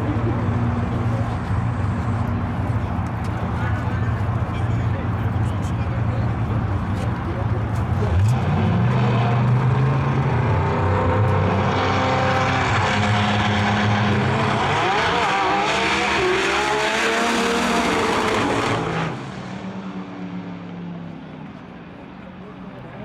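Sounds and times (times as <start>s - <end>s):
drag race cars at full throttle: 0.0s - 23.0s.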